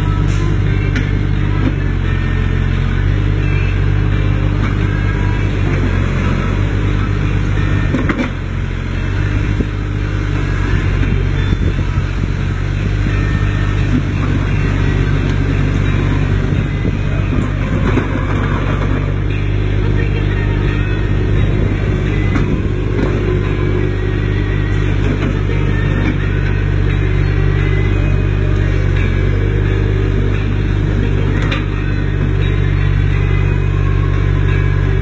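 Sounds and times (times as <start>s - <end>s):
mini excavator diesel engine: 0.0s - 35.0s.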